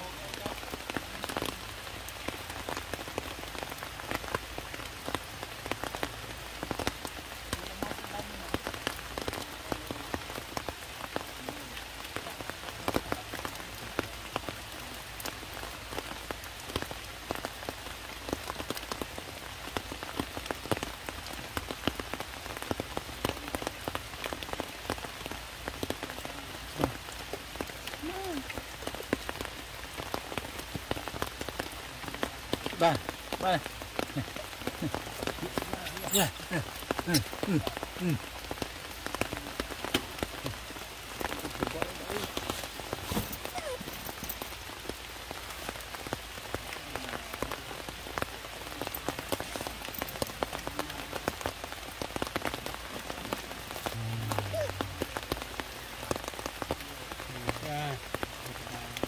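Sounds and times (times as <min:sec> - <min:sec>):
heavy rain on rocks and leaves: 0:00.0 - 0:59.0
raindrops splatting close by: 0:00.0 - 0:59.0.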